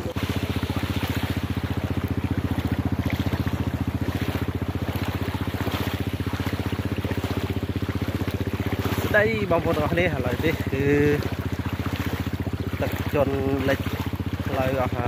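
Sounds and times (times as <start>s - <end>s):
boat engine puttering: 0.0s - 15.0s
water rushing: 0.0s - 15.0s.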